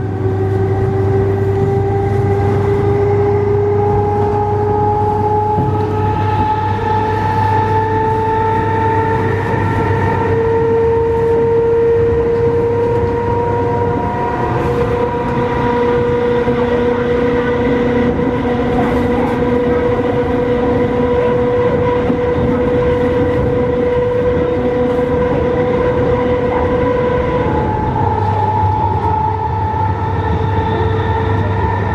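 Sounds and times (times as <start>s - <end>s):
train traction motors whining: 0.0s - 31.9s
wheel and rail rumble: 0.0s - 31.9s.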